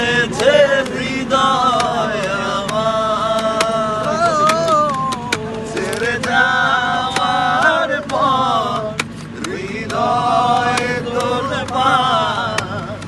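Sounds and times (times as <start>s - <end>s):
group singing in unison: 0.0s - 13.0s
hands drumming on plastic stool: 0.4s - 13.0s.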